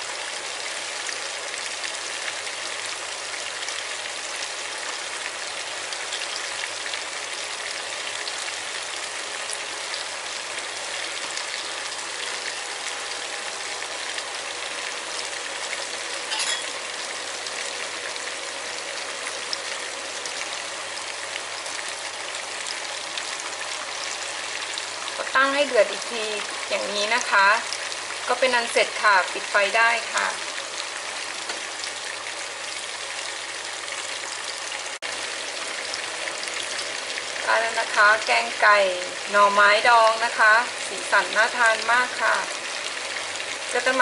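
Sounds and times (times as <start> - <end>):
curry bubbling in a pan: 0.0 - 44.0.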